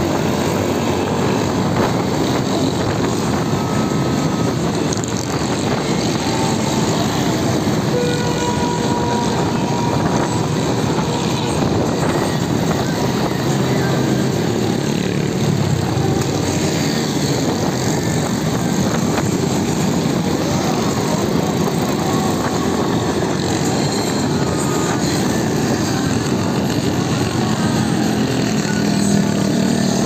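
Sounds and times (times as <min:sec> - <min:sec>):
small motorcycles running: 0:00.0 - 0:30.0.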